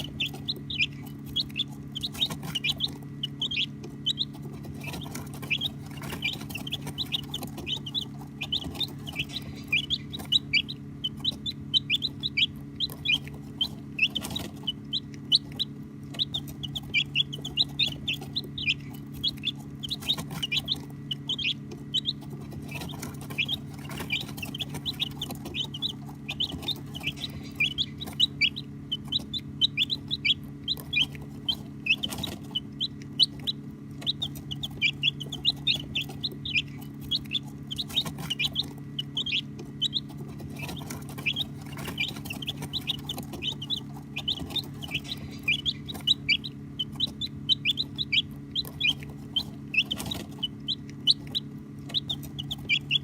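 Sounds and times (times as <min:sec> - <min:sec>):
baby chicks peeping: 0:00.0 - 0:53.0
steady low hum: 0:00.0 - 0:53.0.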